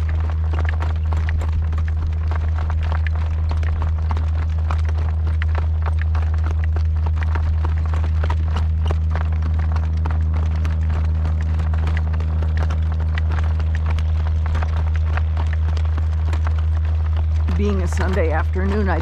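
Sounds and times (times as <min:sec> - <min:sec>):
horse hooves clopping: 0:00.0 - 0:19.0
steady low rumble: 0:00.0 - 0:19.0.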